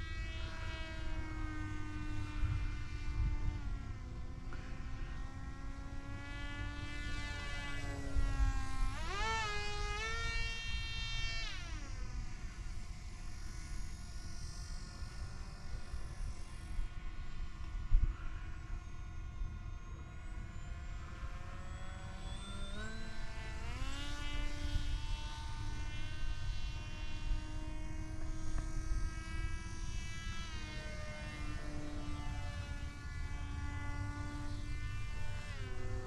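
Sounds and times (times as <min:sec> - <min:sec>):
model plane motor whining: 0:00.0 - 0:36.0.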